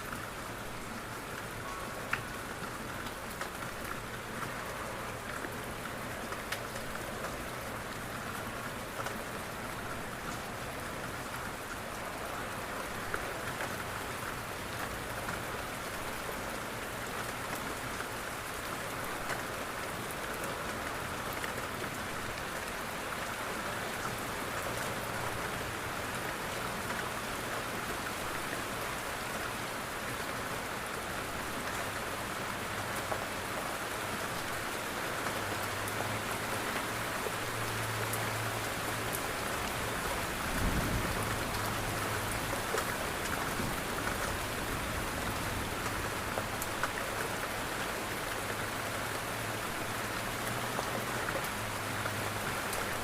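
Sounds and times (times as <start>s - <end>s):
rain pattering on a window: 0.0s - 53.0s.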